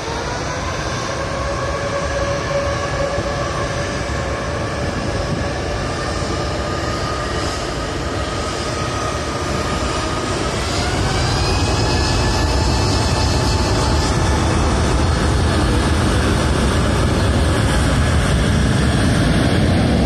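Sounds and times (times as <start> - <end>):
jet engines at takeoff thrust: 0.0 - 20.0.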